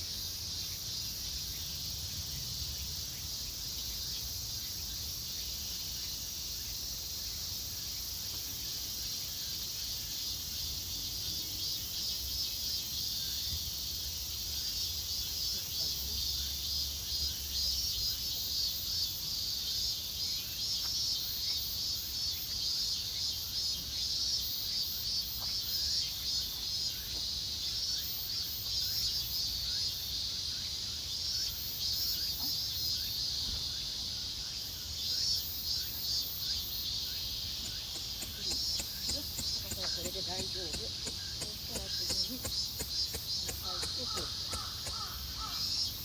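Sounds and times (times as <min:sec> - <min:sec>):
insects chirping and trilling: 0:00.0 - 0:46.0.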